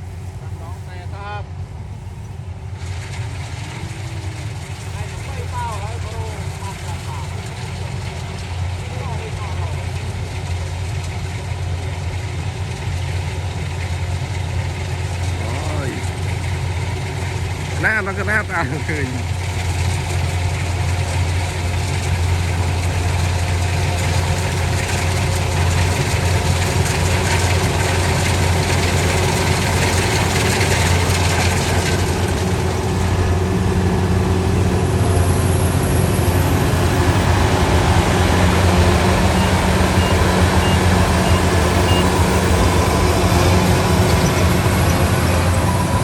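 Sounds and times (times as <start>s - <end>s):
large engine running: 0.0s - 46.0s.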